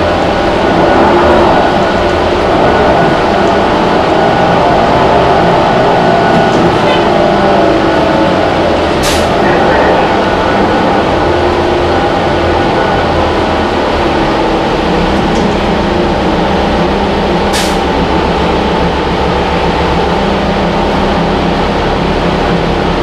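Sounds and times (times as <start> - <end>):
bus diesel engine running: 0.0 - 23.0
road noise: 0.0 - 23.0.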